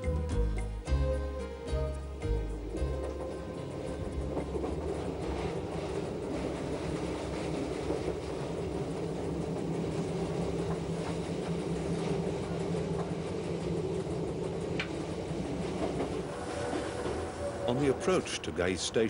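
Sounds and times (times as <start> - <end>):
electric train hum: 0.0 - 19.0
wheels on rails: 3.0 - 18.5.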